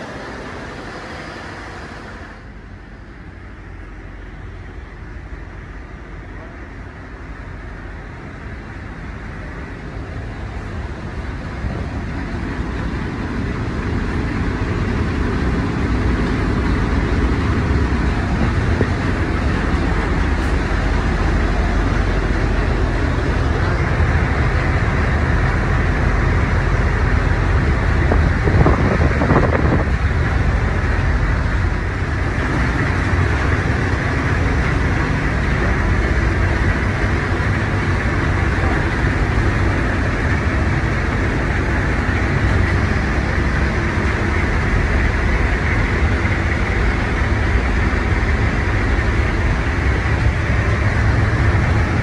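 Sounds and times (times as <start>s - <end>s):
engine room machinery rumbling: 0.0s - 52.0s.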